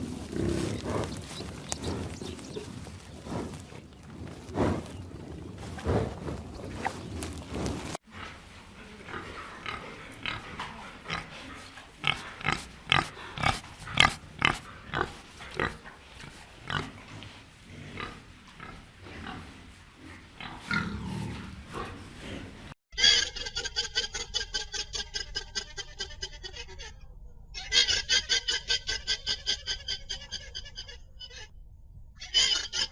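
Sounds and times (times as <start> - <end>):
pigs grunting and squealing: 0.0 - 23.2, 27.6 - 31.5, 32.2 - 32.9.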